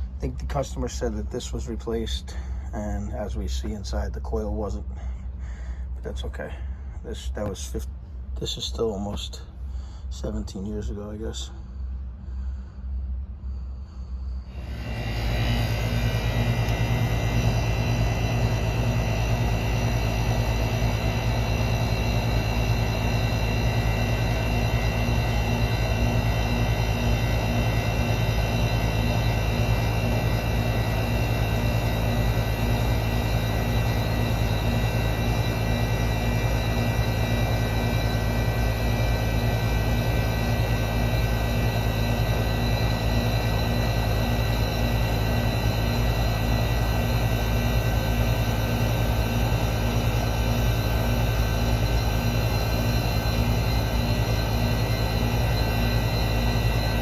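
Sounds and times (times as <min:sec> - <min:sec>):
compressor low hum: 0:00.0 - 0:57.0
condenser fan: 0:00.0 - 0:57.0.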